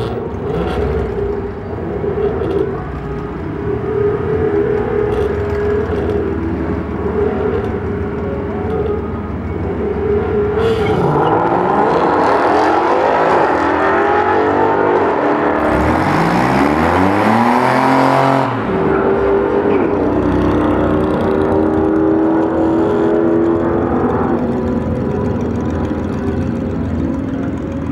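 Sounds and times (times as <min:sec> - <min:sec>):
cars accelerating hard: 0:00.0 - 0:27.9.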